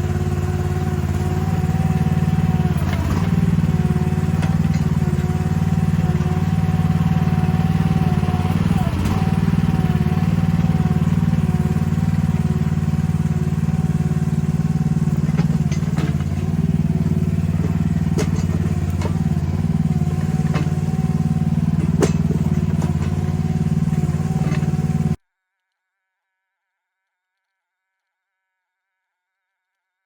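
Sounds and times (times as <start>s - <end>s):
excavator engine running: 0.0s - 25.2s.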